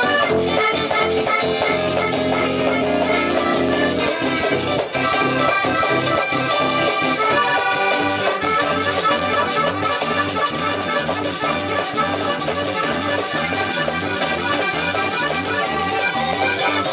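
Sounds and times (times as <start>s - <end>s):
button accordion melody: 0.0s - 16.9s
electric bass: 0.0s - 16.9s
percussion beat: 0.0s - 16.9s.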